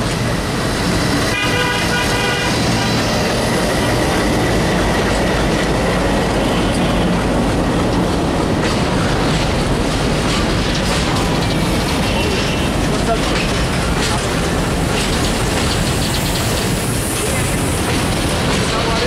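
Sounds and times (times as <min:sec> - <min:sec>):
freight train rumbling: 0:00.0 - 0:19.0
wheels clattering over rail joints: 0:00.0 - 0:19.0.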